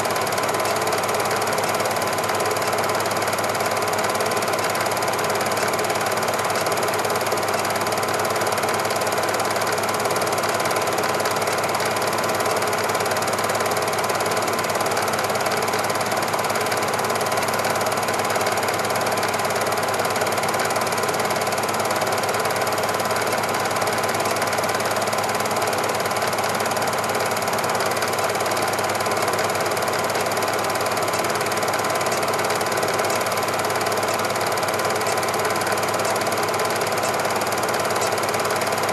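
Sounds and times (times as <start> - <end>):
film projector mechanical chatter: 0.0 - 38.9.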